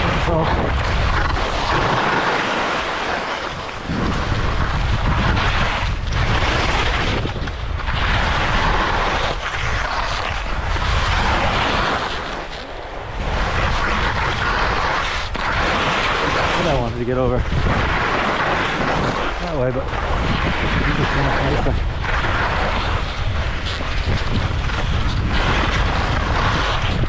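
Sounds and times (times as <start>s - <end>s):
skis scraping over snow: 0.0s - 27.0s
wind on microphone: 0.0s - 27.0s.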